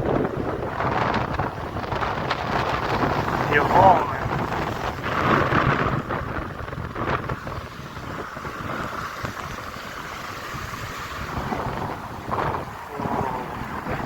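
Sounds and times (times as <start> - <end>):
small waves breaking on beach: 0.0 - 14.0
wind buffeting microphone: 0.0 - 14.0.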